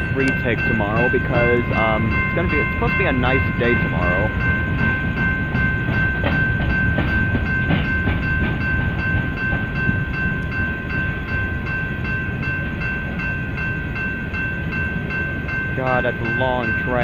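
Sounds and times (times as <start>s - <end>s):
crossing bell ringing: 0.0s - 17.0s
train cars rumbling past: 0.0s - 17.0s.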